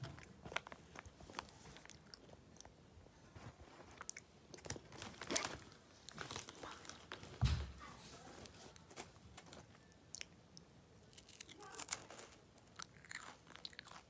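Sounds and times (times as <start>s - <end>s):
chewing and crunching food: 0.0s - 7.3s, 8.7s - 14.0s.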